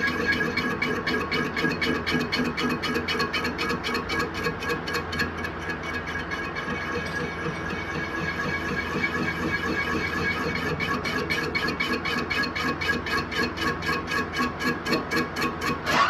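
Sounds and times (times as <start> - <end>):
metal lathe humming and whining: 0.0 - 16.0.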